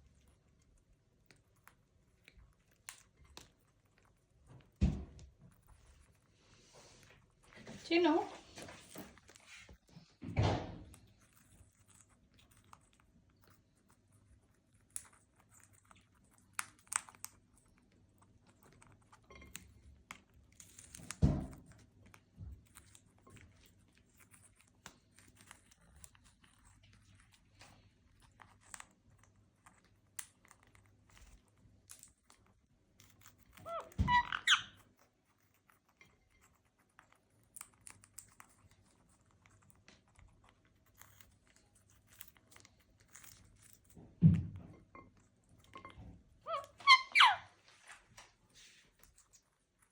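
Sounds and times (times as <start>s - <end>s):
parrot crunching food: 0.0s - 49.9s.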